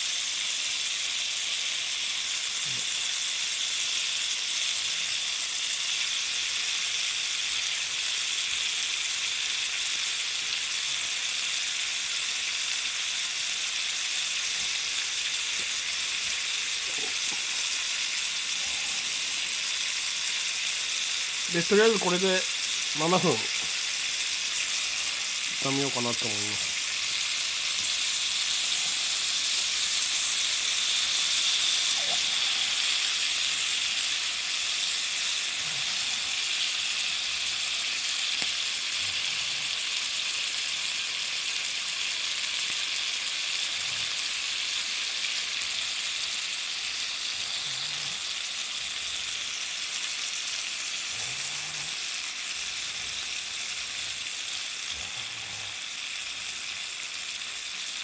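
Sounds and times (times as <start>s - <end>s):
food sizzling in a skillet: 0.0s - 58.0s.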